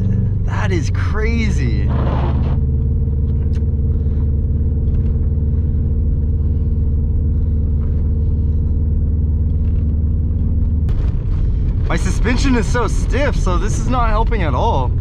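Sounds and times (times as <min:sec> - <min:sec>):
car engine drone: 0:00.0 - 0:15.0
tyre and road rumble: 0:00.0 - 0:15.0.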